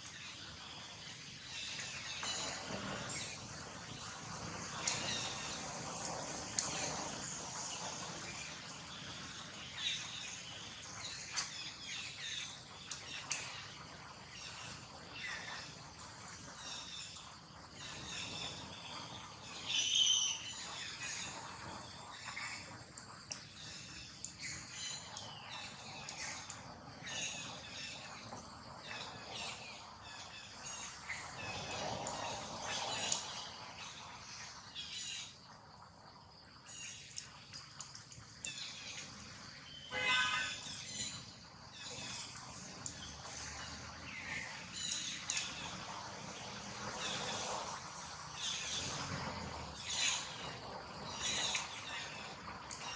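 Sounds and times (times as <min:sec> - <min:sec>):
steady background hiss: 0:00.0 - 0:52.9.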